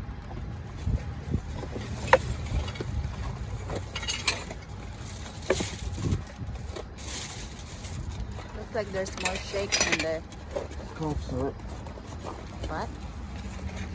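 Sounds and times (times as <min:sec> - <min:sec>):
low rumbling wind: 0:00.0 - 0:13.9
trash knocking and clattering: 0:00.2 - 0:13.9.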